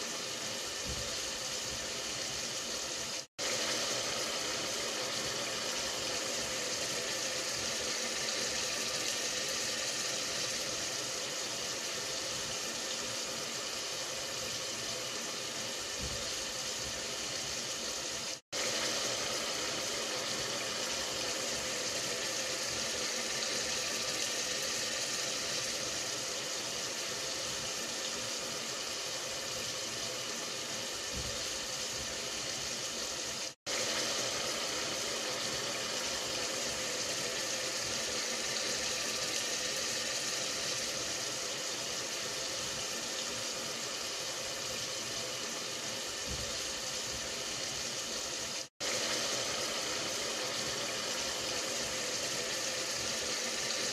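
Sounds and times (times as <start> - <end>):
meat sizzling in a pot: 0.0 - 53.9.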